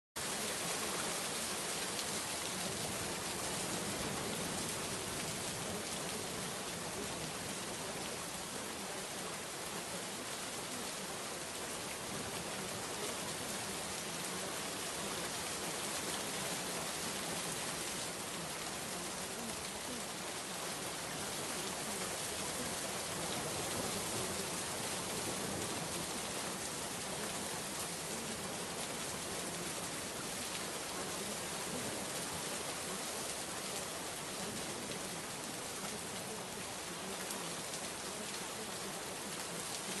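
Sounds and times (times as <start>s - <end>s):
steady rain: 0.2s - 40.0s.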